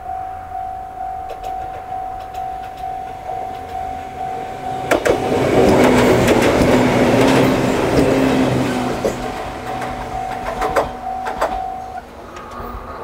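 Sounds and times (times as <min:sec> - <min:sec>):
electric train passing: 0:00.0 - 0:13.0
level crossing warning bell: 0:00.0 - 0:13.0
train wheel clacks: 0:01.2 - 0:13.0.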